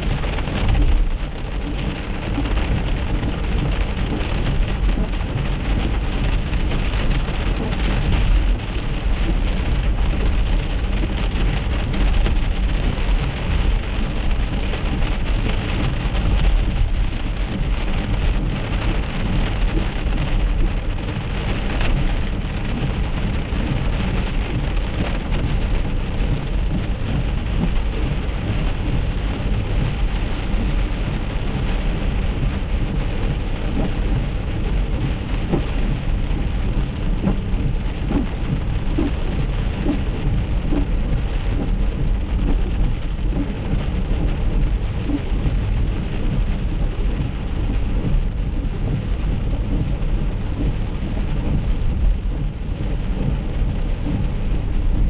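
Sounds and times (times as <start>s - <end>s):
rain and hail on a car: 0.0s - 55.0s
tyres rumbling on wet road: 0.0s - 55.0s.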